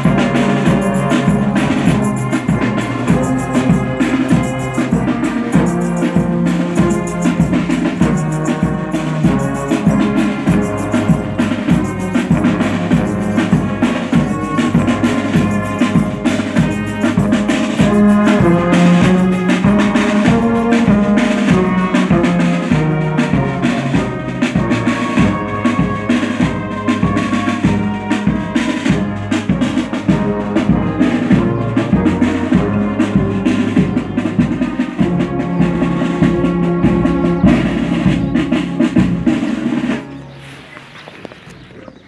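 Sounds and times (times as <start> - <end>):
brass band playing: 0.0 - 41.9
bass drum and snare drum beat: 0.0 - 42.0.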